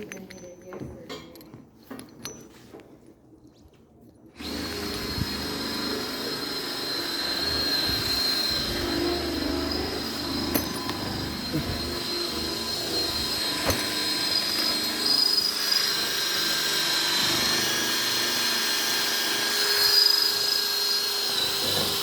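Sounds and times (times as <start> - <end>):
drill boring through steel: 4.4 - 22.0.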